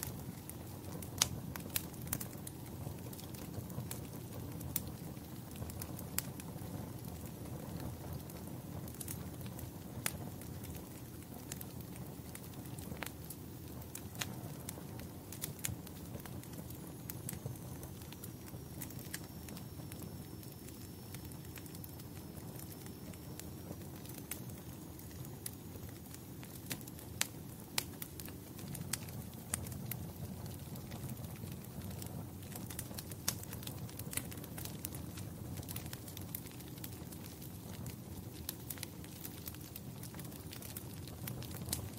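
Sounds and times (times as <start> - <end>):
fire crackling in fireplace: 0.0 - 41.9.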